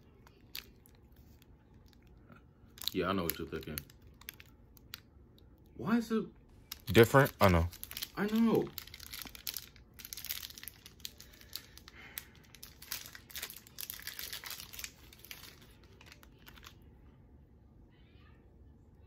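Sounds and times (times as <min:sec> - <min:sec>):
plastic wrapper crinkling and tearing: 0:00.0 - 0:05.5, 0:06.5 - 0:16.8.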